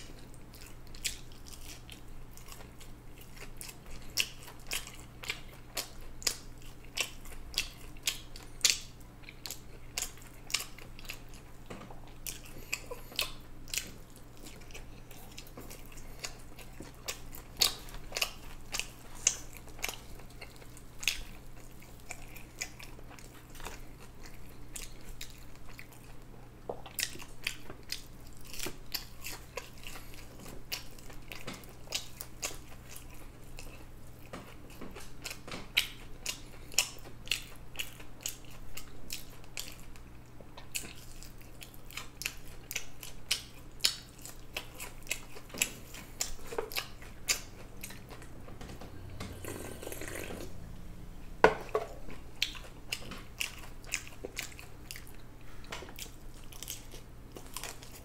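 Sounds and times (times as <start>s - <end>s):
person chewing food: 0.0s - 50.7s, 51.4s - 58.0s.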